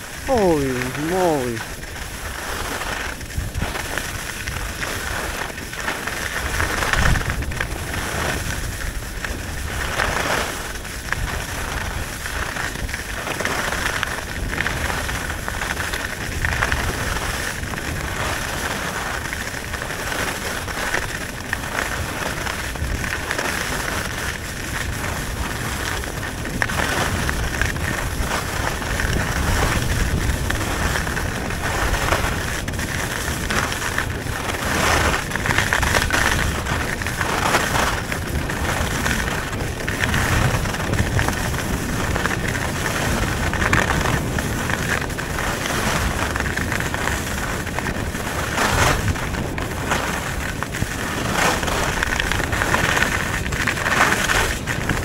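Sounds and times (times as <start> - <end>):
wind rumbling on microphone: 0.0 - 55.0
skis scraping on snow: 1.7 - 55.0.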